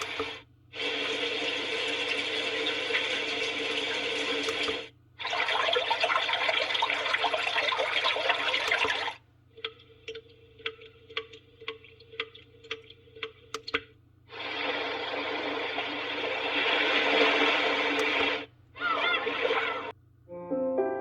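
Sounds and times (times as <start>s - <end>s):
running water through small speaker: 0.0s - 20.0s.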